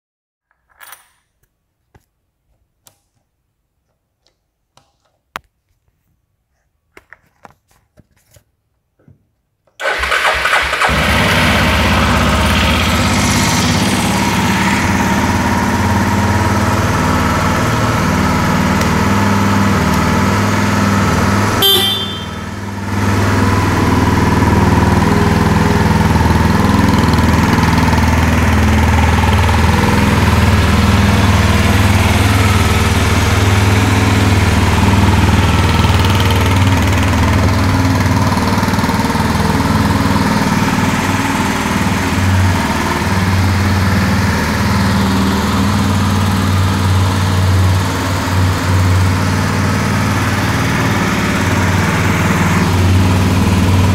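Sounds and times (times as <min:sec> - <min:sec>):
motorcycle engine idling: 0:09.8 - 0:53.9.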